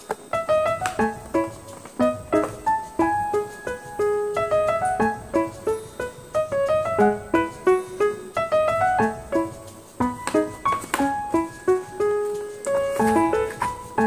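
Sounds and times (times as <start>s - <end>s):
light piano melody: 0.0s - 14.0s.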